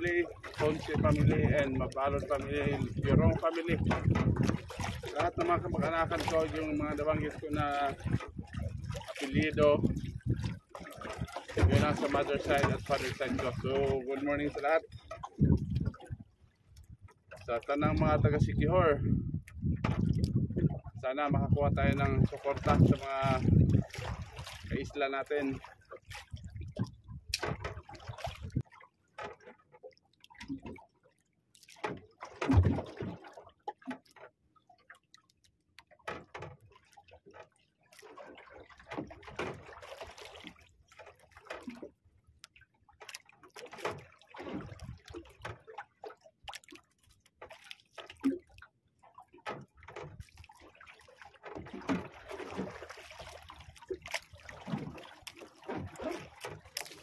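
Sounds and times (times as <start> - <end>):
water lapping against boat hull: 0.0 - 57.0.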